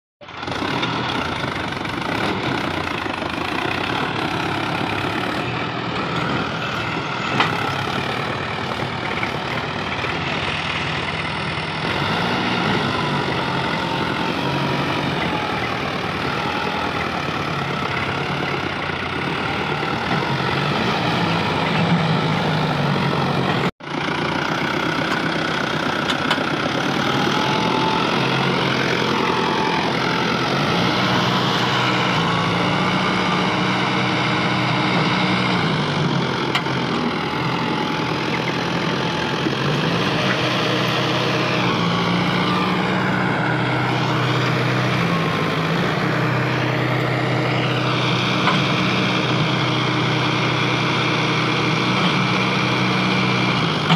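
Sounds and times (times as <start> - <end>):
tractor diesel engine straining: 0.2 - 53.9.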